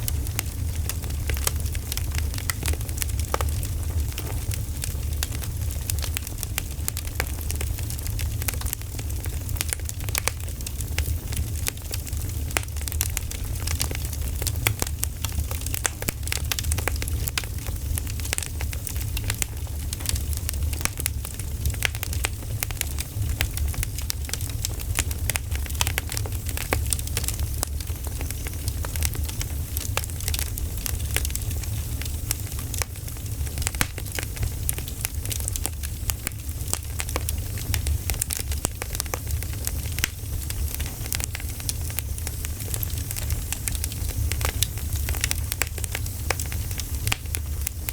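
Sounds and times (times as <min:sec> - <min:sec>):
campfire crackling and popping: 0:00.0 - 0:47.9
low fire rumble: 0:00.0 - 0:47.9.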